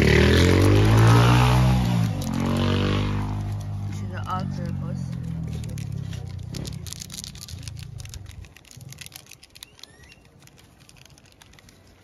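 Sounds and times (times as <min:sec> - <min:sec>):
foil sachets crinkling: 0:00.2 - 0:12.0.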